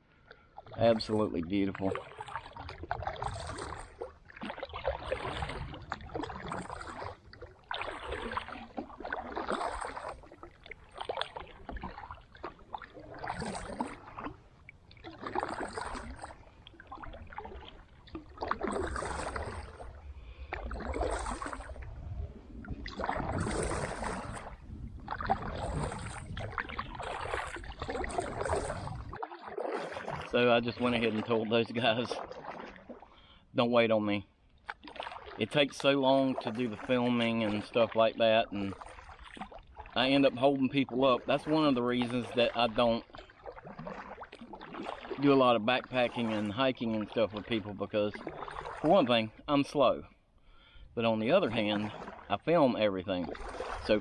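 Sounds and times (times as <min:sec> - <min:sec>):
kayak paddle swishing water: 0:00.0 - 0:54.0.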